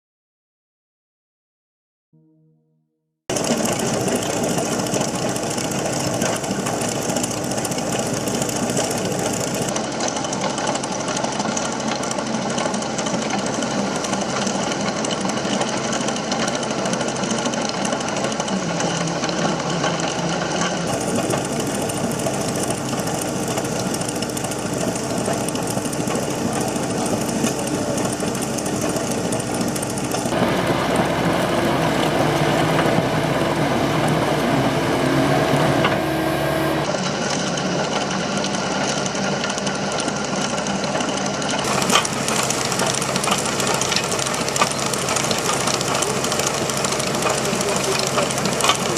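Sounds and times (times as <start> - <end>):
machine engine noise: 3.3 - 48.9.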